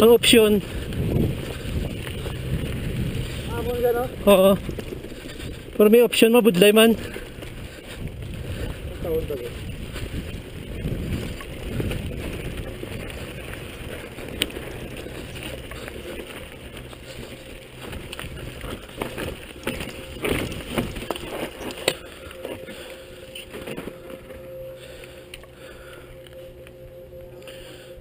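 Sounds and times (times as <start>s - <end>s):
wind buffeting microphone: 0.0s - 25.0s
bike tyres rumbling on dirt: 0.0s - 26.0s
bike rattling: 0.0s - 26.6s.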